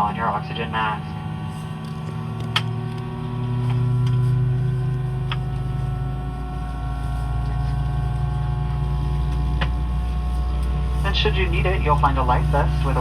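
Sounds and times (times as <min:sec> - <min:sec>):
aircraft cabin hum: 0:00.0 - 0:13.0
steady whining tones: 0:00.0 - 0:13.0.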